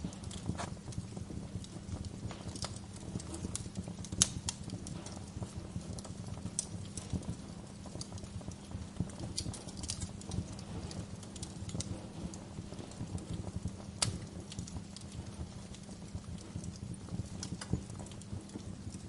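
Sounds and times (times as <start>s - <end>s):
wood fire crackling in fireplace: 0.0s - 19.0s.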